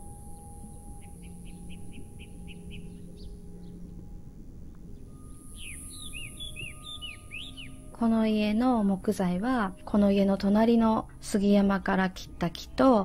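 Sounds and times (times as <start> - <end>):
faint background hum: 0.0 - 13.0
birds chirping: 0.3 - 11.2.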